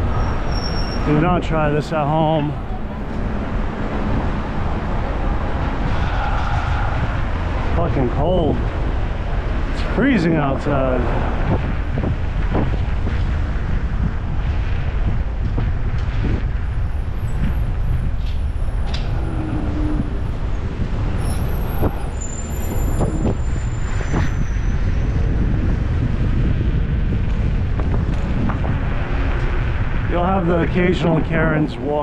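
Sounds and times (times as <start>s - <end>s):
street traffic: 0.0s - 32.0s
wind buffeting microphone: 0.0s - 32.0s.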